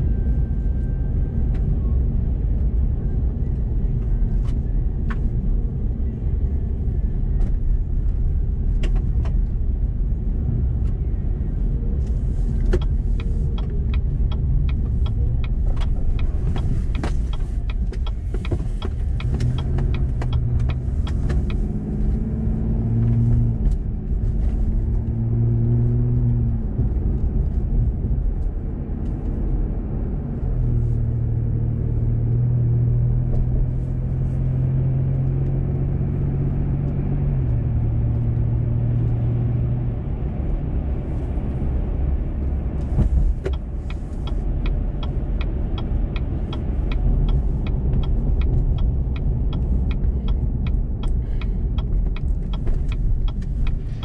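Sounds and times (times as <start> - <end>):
road and tyre rumble: 0.0 - 54.0.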